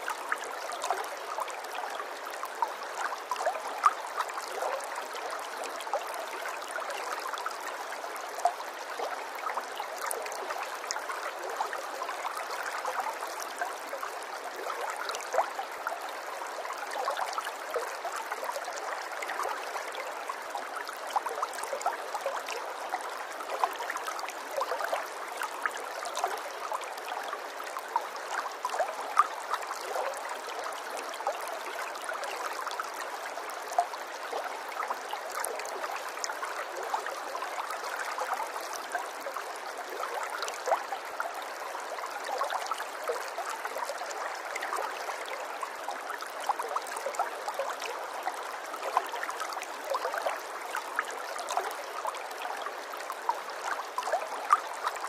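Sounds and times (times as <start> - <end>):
water running in a stream: 0.0 - 55.0.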